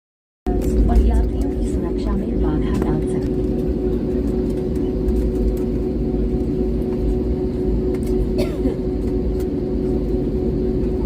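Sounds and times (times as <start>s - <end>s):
airliner engines rumbling: 0.5s - 11.0s
constant mid-pitched hum: 0.5s - 11.0s.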